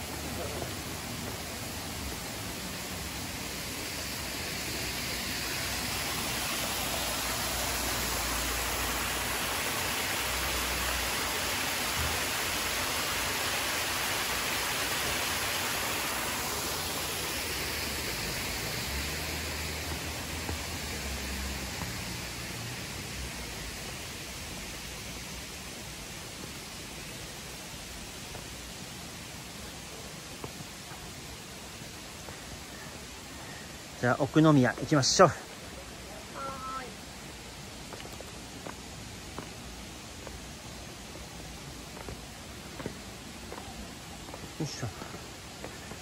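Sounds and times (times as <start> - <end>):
mountain stream rushing: 0.0 - 46.0.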